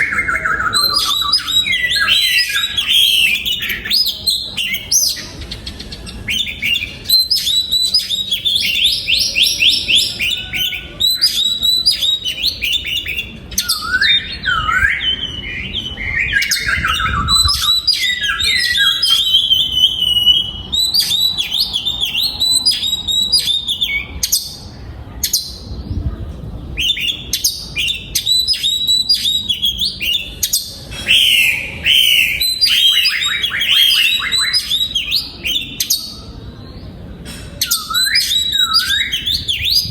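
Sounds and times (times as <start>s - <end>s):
bird singing: 0.0s - 26.1s, 26.7s - 37.0s, 37.6s - 39.9s.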